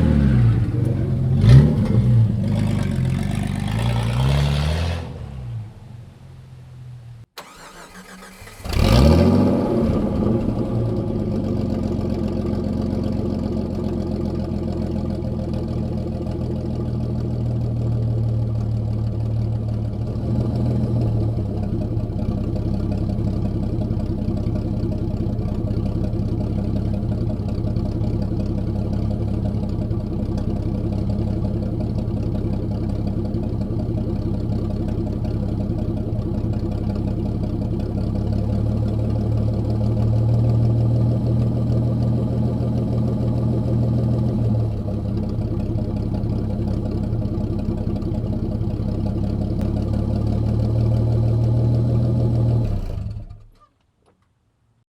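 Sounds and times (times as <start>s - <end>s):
loud engine idling: 0.0s - 4.4s, 7.4s - 53.0s.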